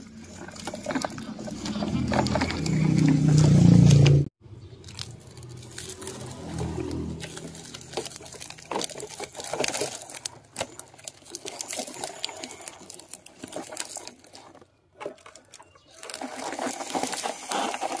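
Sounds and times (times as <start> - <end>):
plastic toy trucks rolling: 0.0 - 18.0.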